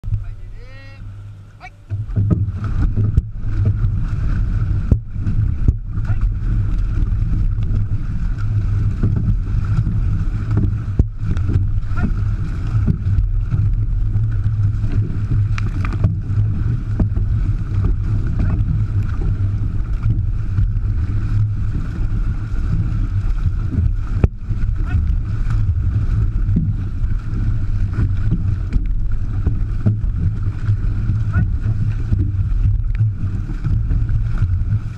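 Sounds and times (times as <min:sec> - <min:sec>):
low wind rumble: 0:00.0 - 0:34.9
paddle splashes: 0:00.0 - 0:34.9
water rushing along a hull: 0:00.0 - 0:34.9.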